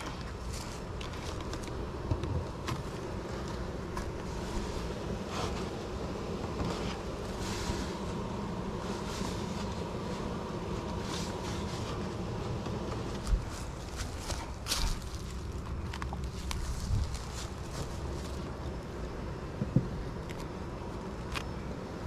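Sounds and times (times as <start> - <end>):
faint rustles: 0.0 - 18.8
bees buzzing: 0.0 - 22.0.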